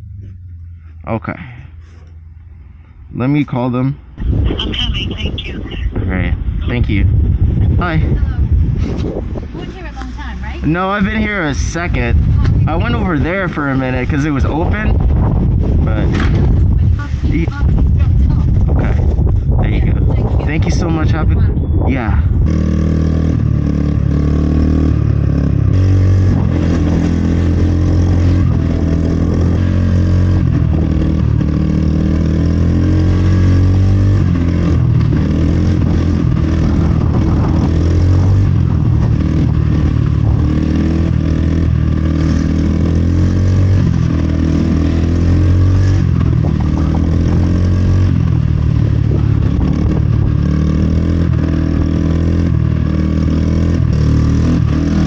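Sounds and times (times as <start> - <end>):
vehicle running hum with rattle: 0.0 - 55.0.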